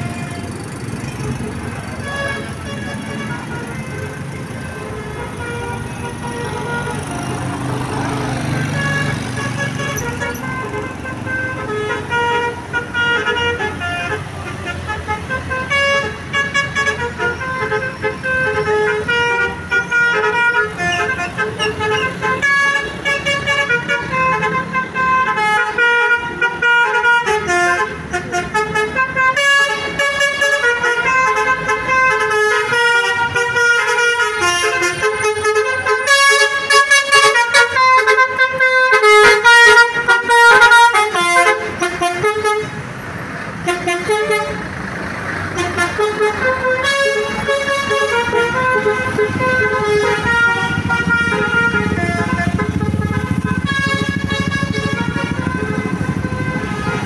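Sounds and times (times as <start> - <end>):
multi-tone horn melody: 0.0 - 43.0, 43.6 - 44.6, 45.5 - 57.0.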